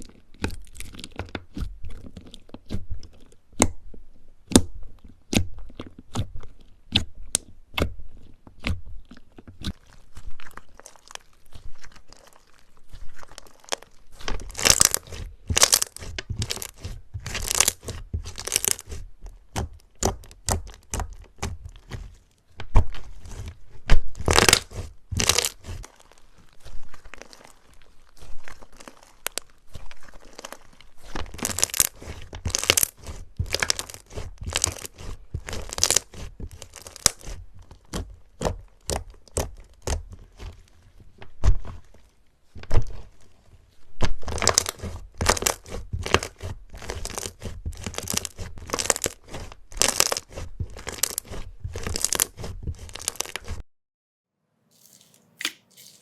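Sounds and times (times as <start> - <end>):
slime crackling and popping: 4.5 - 23.1, 23.8 - 40.5, 44.0 - 53.6, 54.7 - 56.0.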